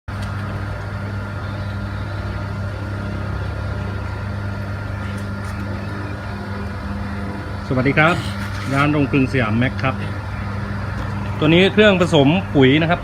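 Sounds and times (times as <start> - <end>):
electric motor humming: 0.1 - 13.0.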